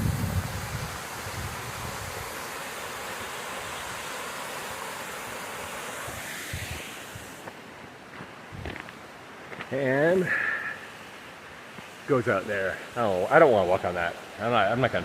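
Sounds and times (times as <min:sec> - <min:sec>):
stream splashing over rocks: 0:00.0 - 0:15.0.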